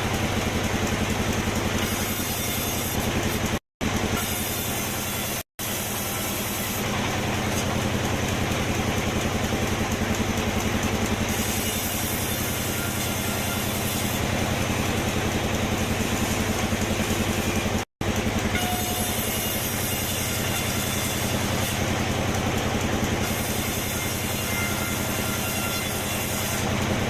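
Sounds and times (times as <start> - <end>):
engine rhythmic low throb: 0.0 - 27.0.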